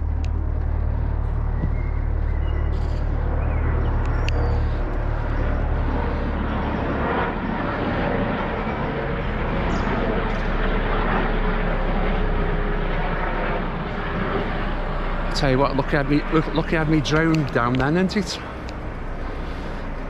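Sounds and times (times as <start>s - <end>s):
aircraft flying low overhead: 0.0s - 20.0s.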